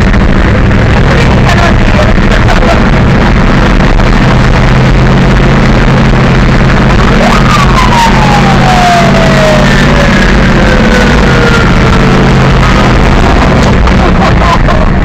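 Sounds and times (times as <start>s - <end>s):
high whine falling in pitch: 0.0s - 15.0s.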